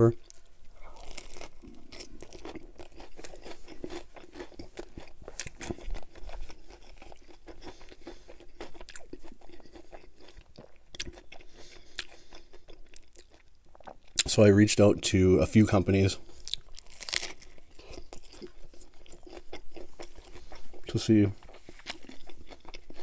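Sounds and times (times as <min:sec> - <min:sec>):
biting and chewing food: 0:00.1 - 0:14.3, 0:16.2 - 0:23.0.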